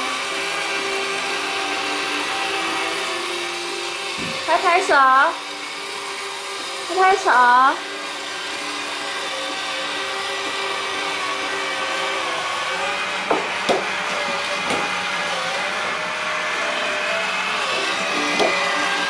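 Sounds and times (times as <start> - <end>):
toy train motor whirring: 0.0 - 19.0.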